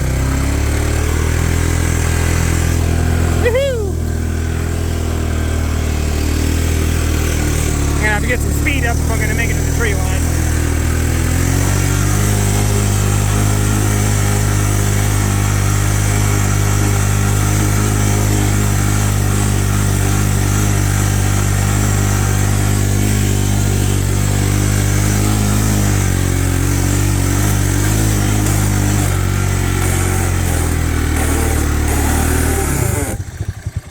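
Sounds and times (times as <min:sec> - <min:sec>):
utility vehicle engine under load: 0:00.0 - 0:33.9.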